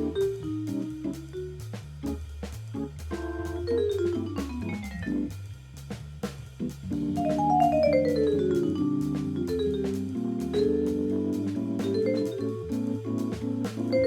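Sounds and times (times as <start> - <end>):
bass line: 0.0 - 14.0
drum and cymbal strokes: 0.0 - 14.0
jazz solo instrument: 0.0 - 14.0.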